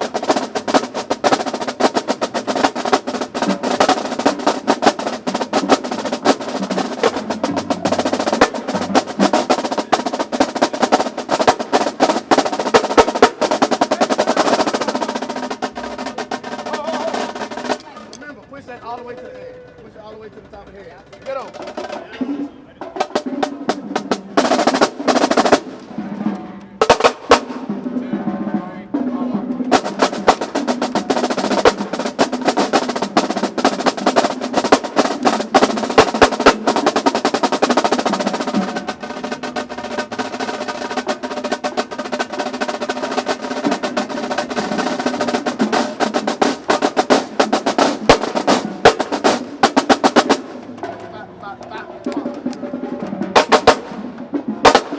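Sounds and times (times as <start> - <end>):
marching drumline playing: 0.0 - 54.9.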